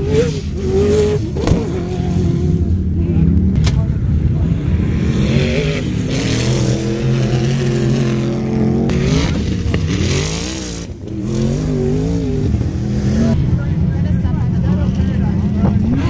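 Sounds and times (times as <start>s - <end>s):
engines accelerating hard: 0.0s - 16.0s.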